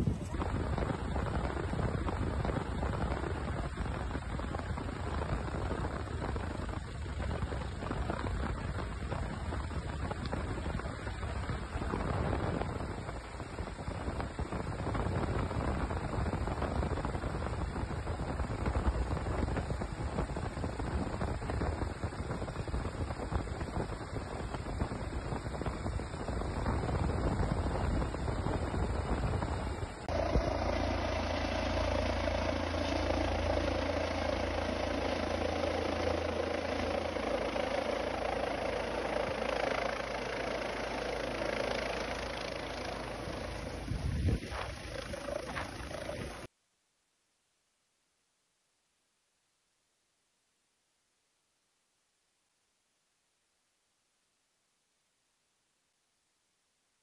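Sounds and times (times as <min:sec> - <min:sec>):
helicopter rotor and engine: 0:00.0 - 0:46.5
rotor wash buffeting microphone: 0:00.0 - 0:46.5.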